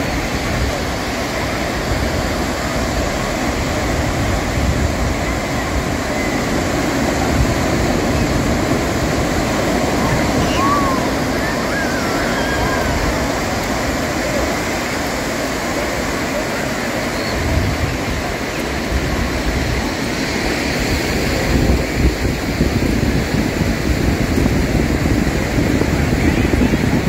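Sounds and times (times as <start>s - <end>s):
crowd chatter: 0.0s - 27.0s
waves washing on sand: 0.0s - 27.0s
wind buffeting microphone: 0.0s - 27.0s.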